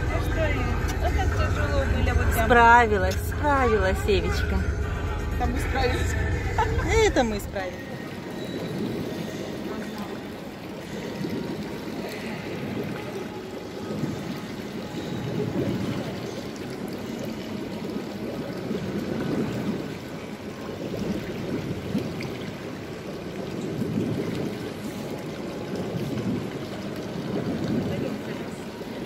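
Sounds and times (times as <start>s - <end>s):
fountain splashing and trickling: 0.0s - 29.0s.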